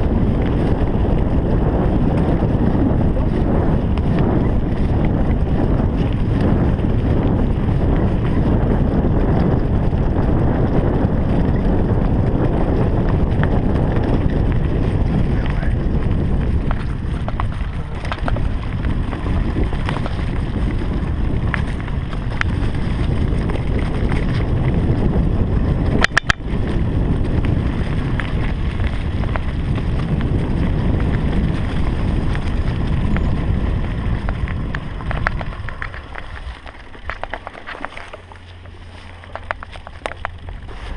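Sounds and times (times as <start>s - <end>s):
bike rattling and knocking: 0.0s - 40.9s
wind buffeting microphone: 0.0s - 40.9s.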